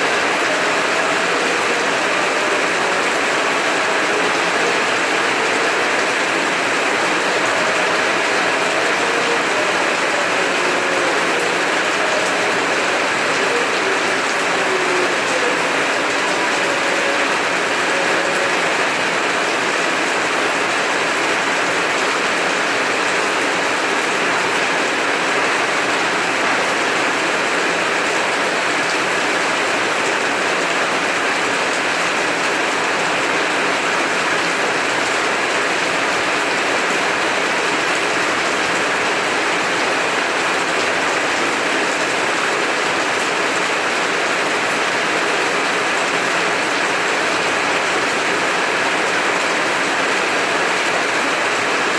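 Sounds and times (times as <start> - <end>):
heavy rain hiss: 0.0 - 51.9.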